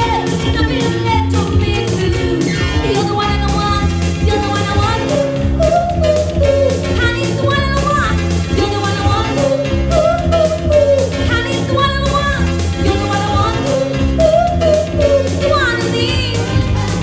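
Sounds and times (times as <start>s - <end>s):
amplified music with drum beat: 0.0s - 17.0s
woman singing into microphone: 0.0s - 17.0s.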